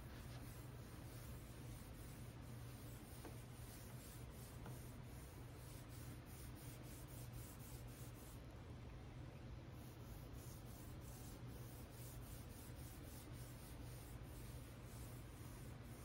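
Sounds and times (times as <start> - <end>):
pad rubbing wax on wood: 0.0 - 8.4, 9.8 - 16.0
steady low hum: 0.0 - 16.0.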